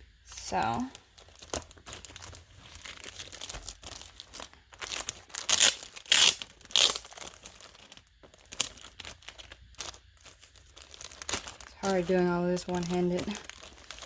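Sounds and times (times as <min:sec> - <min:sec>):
packaging crinkling and tearing: 0:00.4 - 0:14.0.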